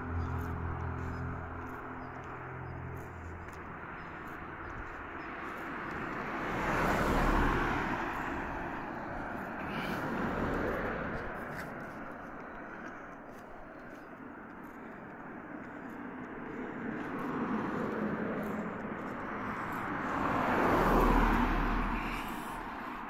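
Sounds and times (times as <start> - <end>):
cars passing on road: 0.0 - 23.0
low engine hum: 0.0 - 23.0.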